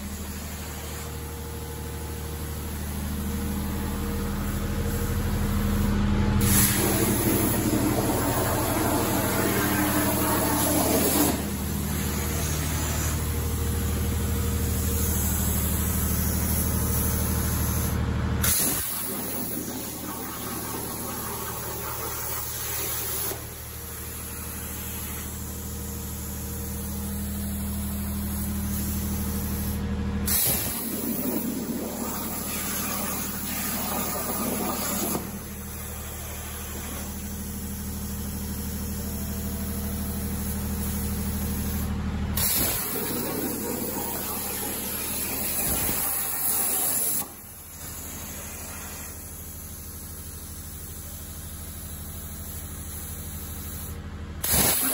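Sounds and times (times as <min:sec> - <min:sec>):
plasma torch hissing: 0:05.7 - 0:13.9, 0:14.6 - 0:38.9, 0:40.0 - 0:51.2, 0:52.2 - 0:54.9.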